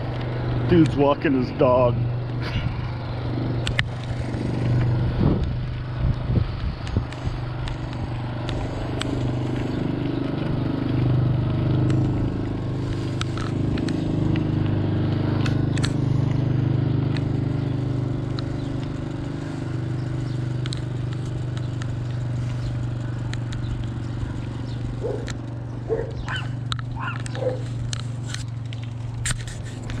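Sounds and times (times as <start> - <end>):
bicycle rolling on pavement: 0.0 - 30.0
bicycle clicks and rattles: 2.2 - 30.0.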